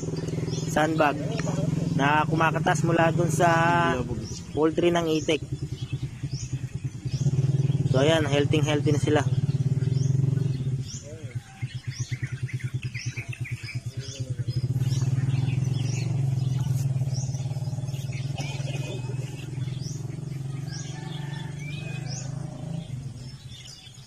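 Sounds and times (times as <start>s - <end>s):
bird chirping: 0.0s - 24.0s
small engine running: 0.0s - 24.0s.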